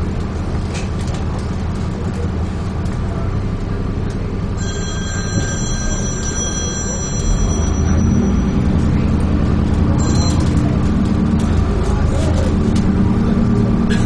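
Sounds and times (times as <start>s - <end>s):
bus interior rumble: 0.0s - 14.0s.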